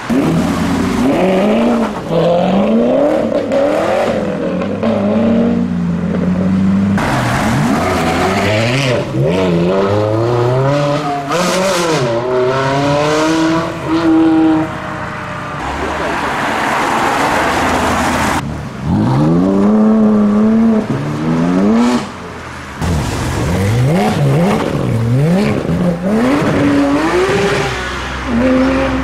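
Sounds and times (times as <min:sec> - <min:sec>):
cars accelerating away: 0:00.0 - 0:29.0.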